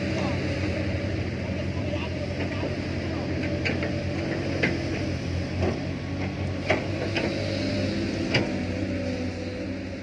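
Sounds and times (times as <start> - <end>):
heavy machinery diesel engines: 0.0 - 10.0.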